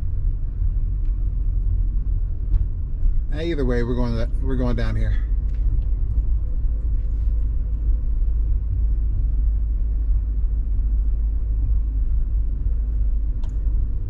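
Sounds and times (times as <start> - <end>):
car engine and tyres rumbling: 0.0 - 14.0
faint steady hum: 0.0 - 14.0.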